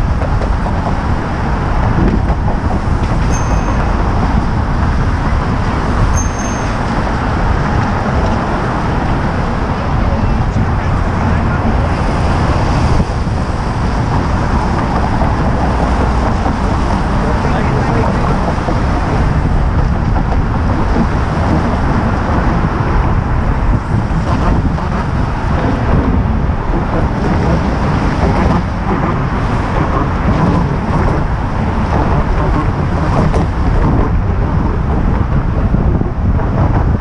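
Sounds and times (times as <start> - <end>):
road traffic passing: 0.0 - 37.0
wind buffeting microphone: 0.0 - 37.0.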